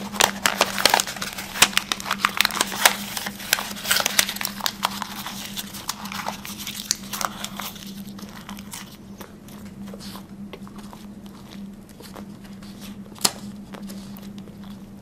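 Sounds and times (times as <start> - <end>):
paper crinkling and being chewed: 0.0 - 15.0.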